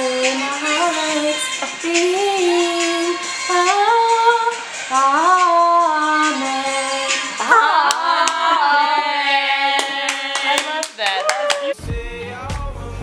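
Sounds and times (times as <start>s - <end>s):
women singing together: 0.0s - 11.8s.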